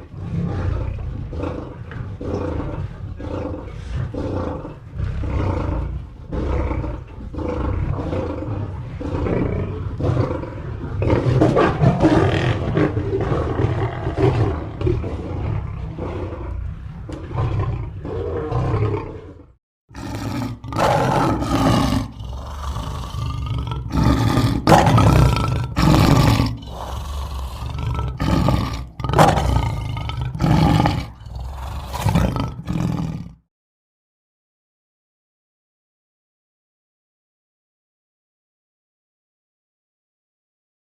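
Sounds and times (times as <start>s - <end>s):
lions roaring: 0.0s - 33.4s.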